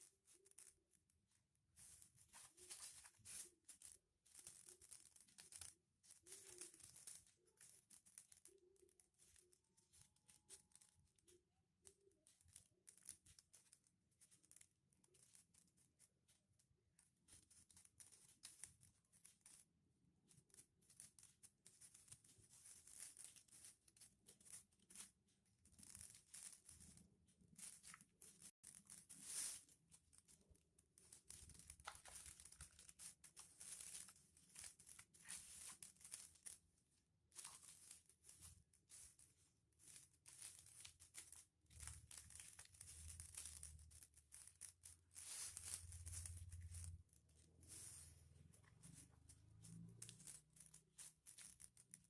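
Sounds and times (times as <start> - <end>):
foil paper crinkling: 1.7 - 15.5, 20.5 - 36.7, 37.3 - 52.0.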